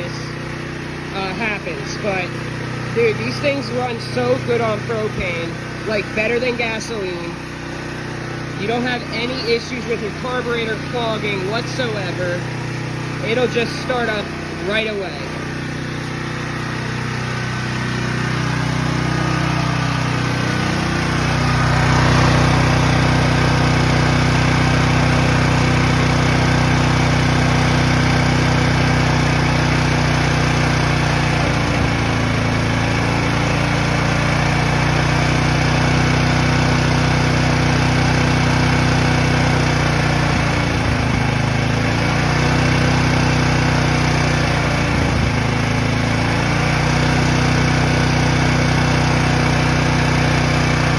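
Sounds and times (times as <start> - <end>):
generator engine running: 0.0 - 50.9.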